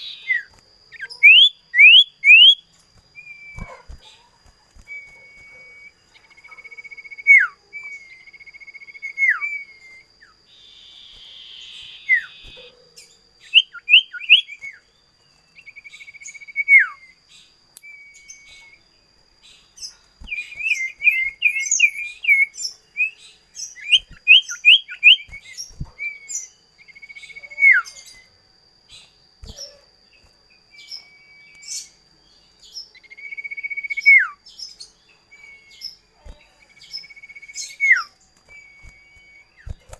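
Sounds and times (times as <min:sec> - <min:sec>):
bird singing whistled notes: 0:00.0 - 0:39.9
faint high-pitched whine: 0:00.0 - 0:39.9.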